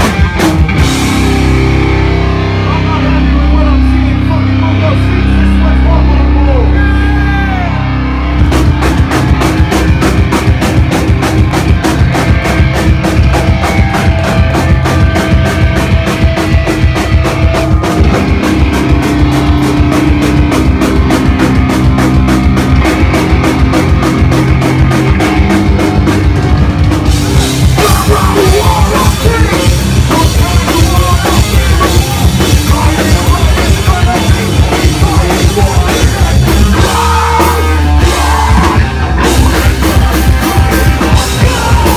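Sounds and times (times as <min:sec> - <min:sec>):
fast drum beat: 0:00.0 - 0:02.1, 0:08.4 - 0:41.9
live metal band: 0:00.0 - 0:41.9.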